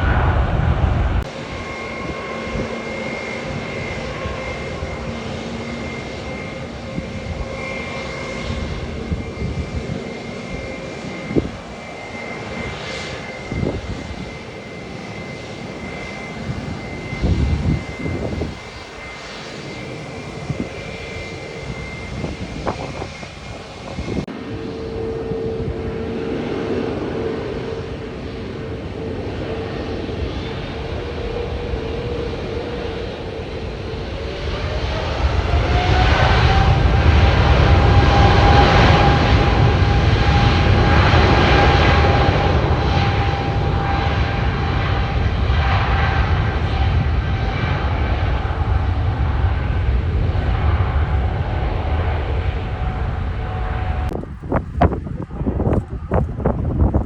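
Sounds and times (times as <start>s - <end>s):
jet engines whining and roaring: 0.0s - 57.0s.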